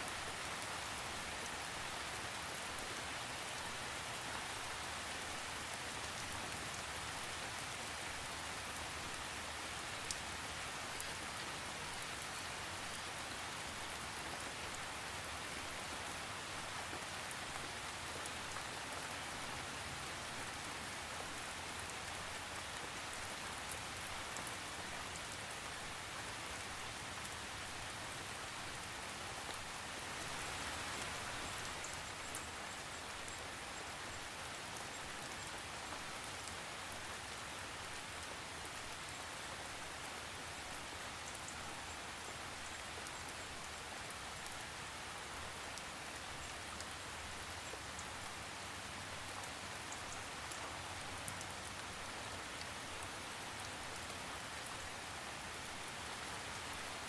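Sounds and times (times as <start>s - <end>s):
raindrops ticking on a surface: 0.0s - 57.0s
steady rain hiss: 0.0s - 57.0s.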